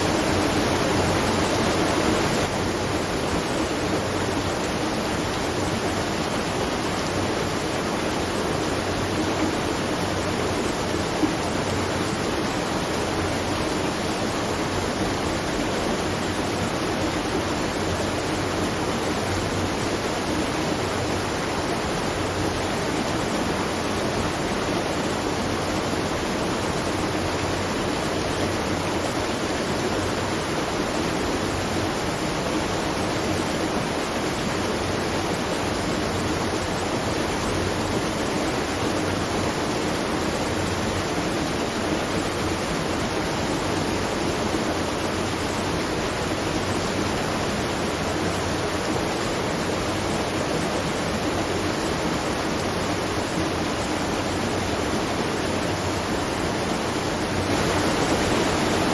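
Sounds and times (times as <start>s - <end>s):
water rushing and splashing: 0.0s - 58.9s.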